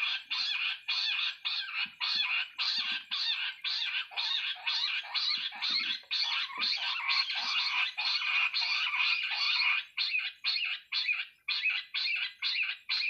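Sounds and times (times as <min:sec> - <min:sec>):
quail chattering call: 0:00.0 - 0:13.0.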